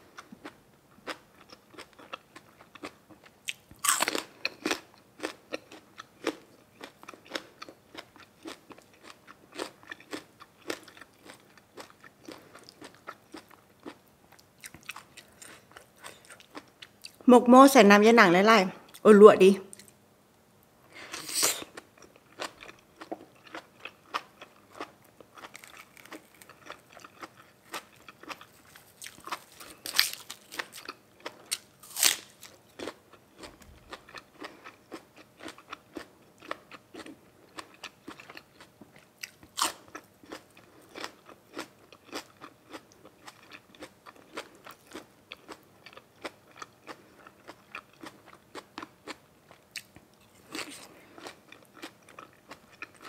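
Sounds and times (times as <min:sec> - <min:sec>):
chewing crunchy food: 0:00.1 - 0:17.2, 0:21.1 - 0:53.0.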